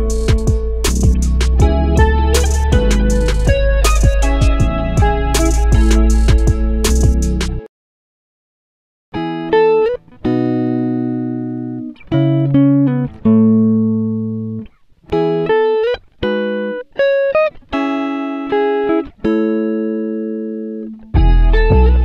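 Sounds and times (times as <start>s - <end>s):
plucked string music: 0.0s - 7.7s, 9.2s - 22.0s.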